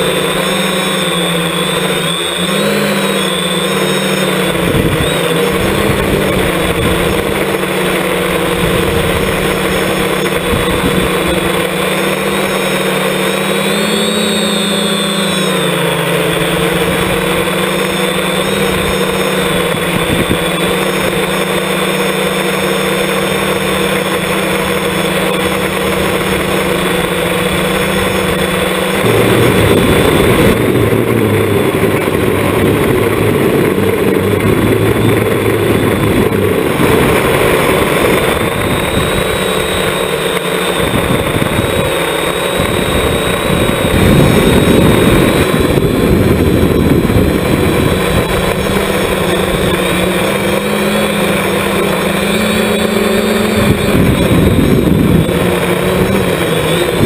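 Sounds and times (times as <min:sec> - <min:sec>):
drone motors buzzing: 0:00.0 - 0:57.0.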